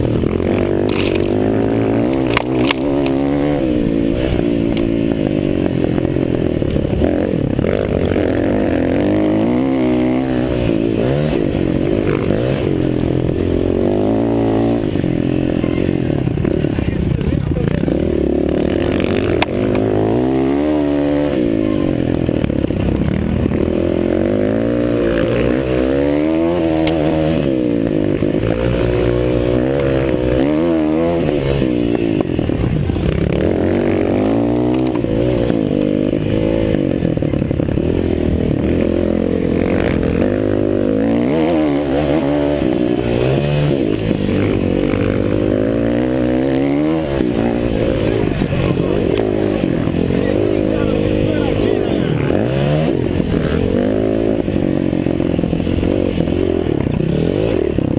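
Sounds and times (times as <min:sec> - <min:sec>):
motocross bikes revving: 0:00.0 - 0:57.9.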